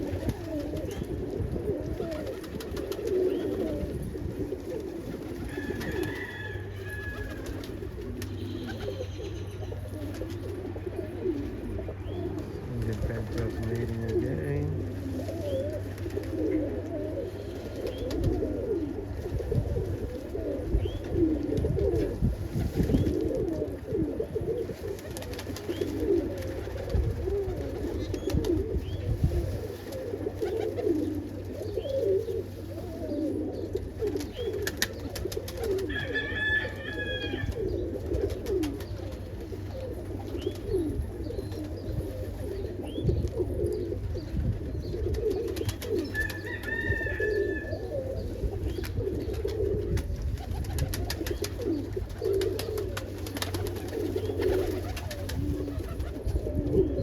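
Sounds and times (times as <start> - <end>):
pigeons cooing: 0.0 - 57.0.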